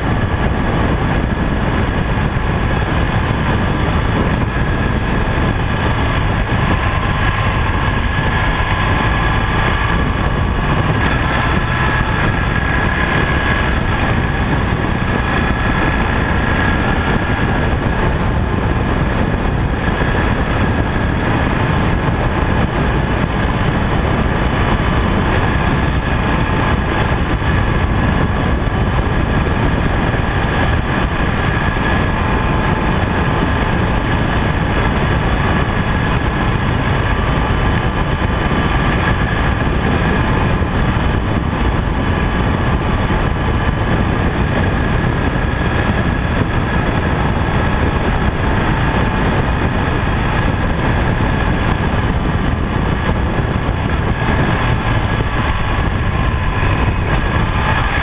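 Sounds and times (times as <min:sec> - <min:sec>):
loud rush of noise: 0:00.0 - 0:58.0
motorcycle engine running: 0:00.0 - 0:58.0.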